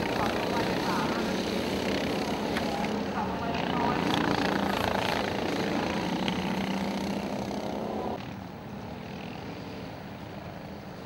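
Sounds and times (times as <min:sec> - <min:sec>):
go-kart engines buzzing: 0:00.0 - 0:11.0.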